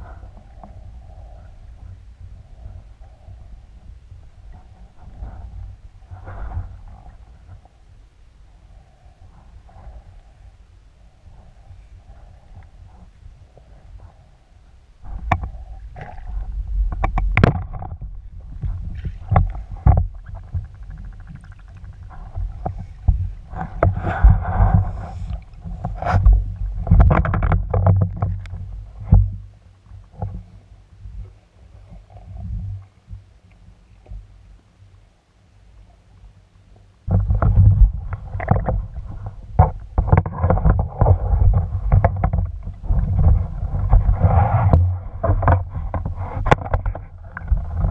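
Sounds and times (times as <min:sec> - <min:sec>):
low rumble: 0:00.0 - 0:33.3, 0:37.0 - 0:47.9
muffled underwater water splashing: 0:00.0 - 0:47.9.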